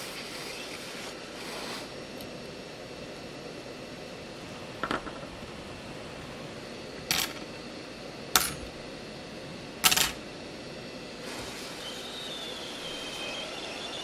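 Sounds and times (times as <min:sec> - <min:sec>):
hot air blower hissing: 0:00.0 - 0:14.0.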